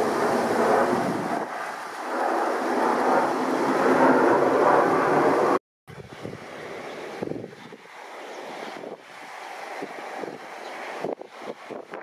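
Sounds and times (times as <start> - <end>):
gusty wind on microphone: 0.0 - 12.0
jet engines rumbling overhead: 0.0 - 12.0.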